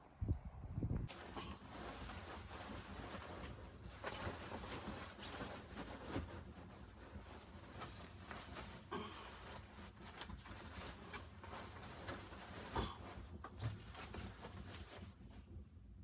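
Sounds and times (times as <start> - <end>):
rustling: 1.1 - 15.7.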